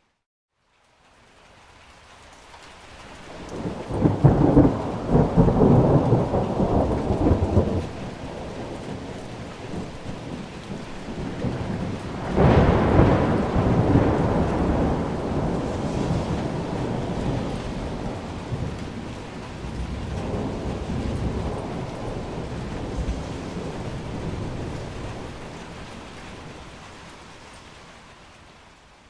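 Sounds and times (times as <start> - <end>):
steady rain hiss: 0.1 - 29.0
rolling thunder: 3.4 - 27.3.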